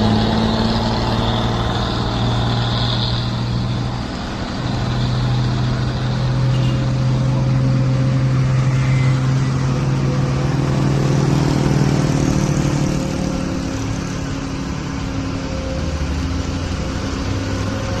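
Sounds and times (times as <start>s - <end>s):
truck engine labouring: 0.0s - 18.0s.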